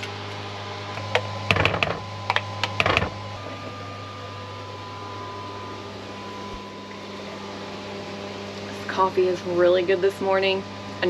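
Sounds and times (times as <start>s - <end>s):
mechanical hum with high tone: 0.0s - 11.0s.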